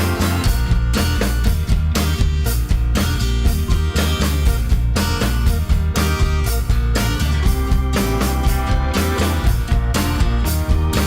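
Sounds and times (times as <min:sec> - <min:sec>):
upbeat rock music: 0:00.0 - 0:11.0.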